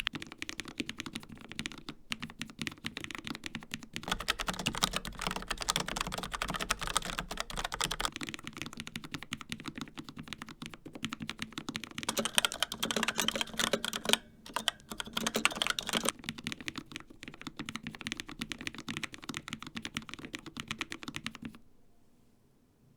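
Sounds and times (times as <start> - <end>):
fast typing on mechanical keyboard: 0.0 - 21.6.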